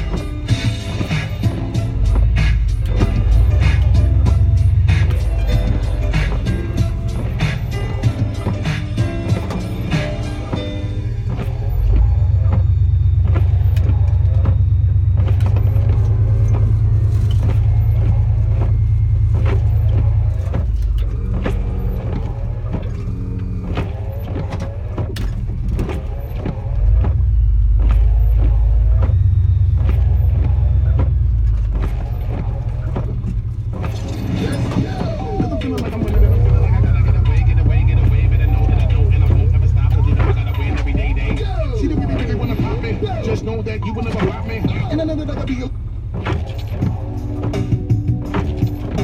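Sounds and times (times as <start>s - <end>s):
truck engine rumbling: 0.0s - 49.0s.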